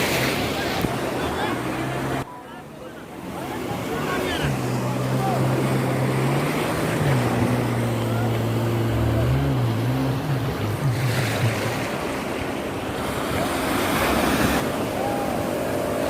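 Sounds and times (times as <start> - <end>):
motorboat engine running: 0.0 - 16.0
surf: 0.0 - 16.0
wind: 0.0 - 16.0.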